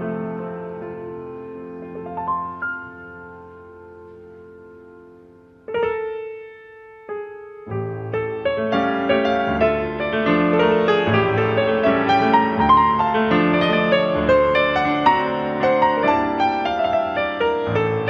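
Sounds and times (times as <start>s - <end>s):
solo piano playing: 0.0s - 18.0s.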